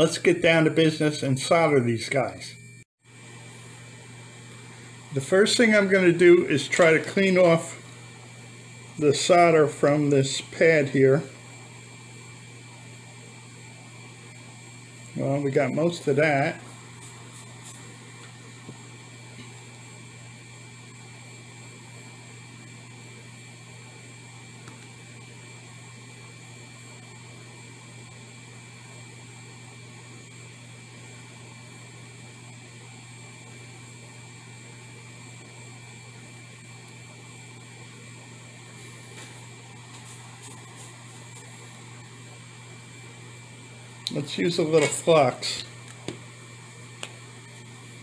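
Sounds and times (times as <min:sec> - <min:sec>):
faint high whine: 0:00.0 - 0:48.0
low electrical hum: 0:00.0 - 0:48.0.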